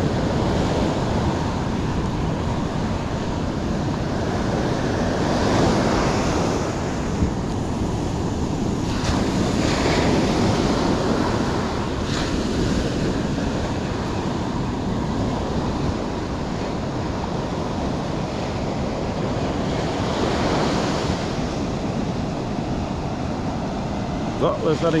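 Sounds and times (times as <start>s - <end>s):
ocean surf breaking: 0.0s - 25.0s
wind on microphone: 0.0s - 25.0s.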